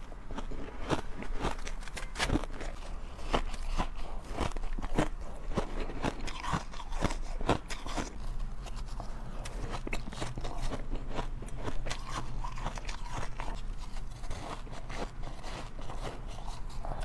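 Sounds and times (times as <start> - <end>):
shaved ice being chewed: 0.0 - 17.0.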